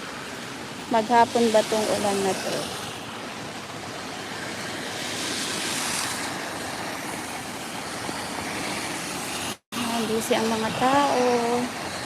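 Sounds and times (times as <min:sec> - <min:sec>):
rain hiss: 0:00.0 - 0:12.0
tyres swishing on wet road: 0:00.0 - 0:12.0.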